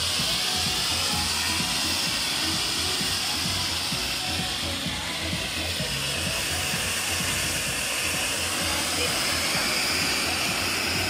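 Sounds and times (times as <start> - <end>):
fountain fireworks hissing: 0.0 - 11.0.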